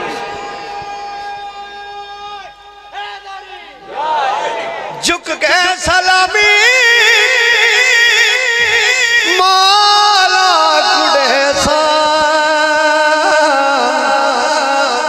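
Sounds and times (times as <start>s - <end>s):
man singing devotional song: 0.0s - 3.6s, 5.0s - 15.0s.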